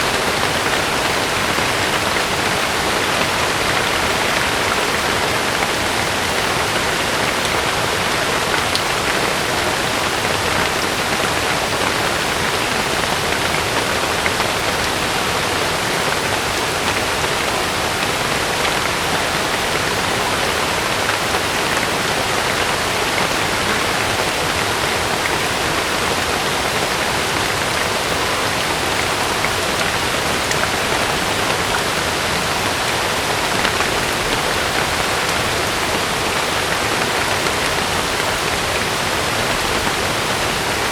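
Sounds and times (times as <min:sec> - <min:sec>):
heavy rain on a tent: 0:00.0 - 0:40.9.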